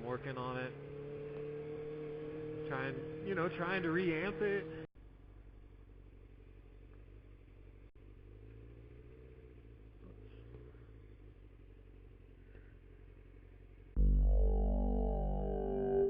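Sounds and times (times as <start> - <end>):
faint motorcycle engine: 0.0 - 16.0.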